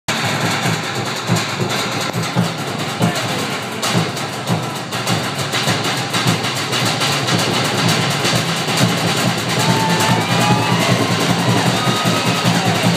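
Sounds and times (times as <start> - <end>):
drums beating a driving rhythm: 0.1 - 12.9.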